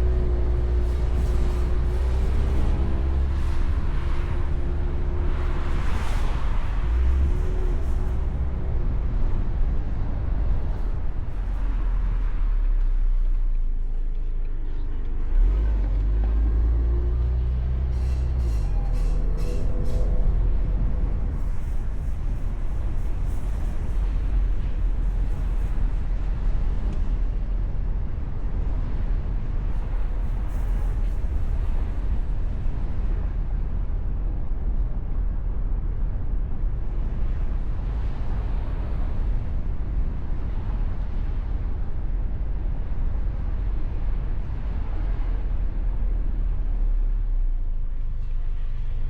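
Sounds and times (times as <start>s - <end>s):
car wind and road noise: 0.0s - 49.0s.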